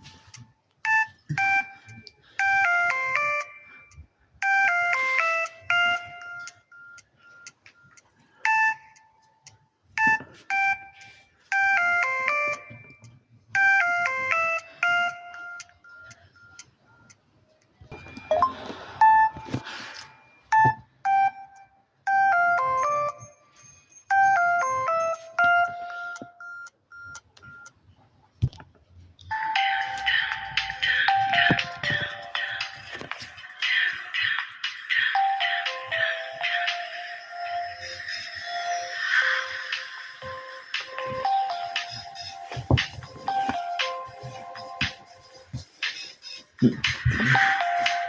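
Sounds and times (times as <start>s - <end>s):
bell-like ringtone melody: 0.0s - 17.0s, 17.9s - 27.6s, 29.3s - 48.0s.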